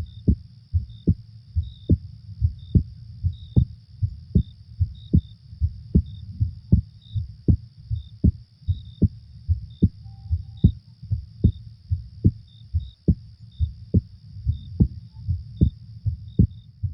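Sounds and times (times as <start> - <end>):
heartbeat thumps: 0.0 - 16.9
steady high hiss: 0.0 - 16.9.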